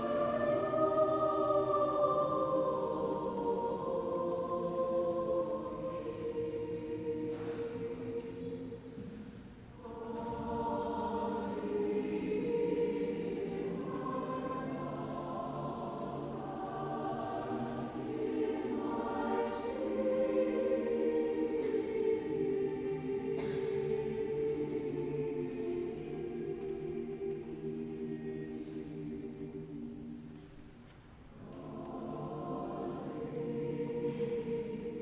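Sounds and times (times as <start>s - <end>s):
choir singing sustained chords: 0.0s - 35.0s.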